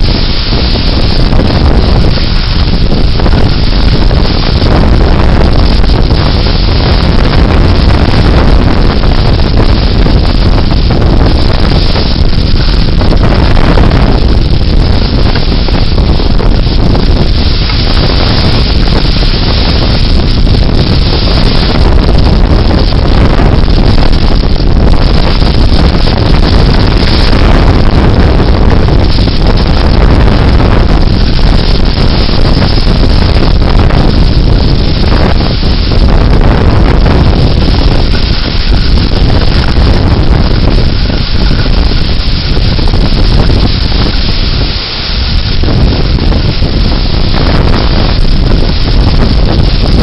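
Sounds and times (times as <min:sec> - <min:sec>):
wind gusts buffeting microphone: 0:00.0 - 0:50.0.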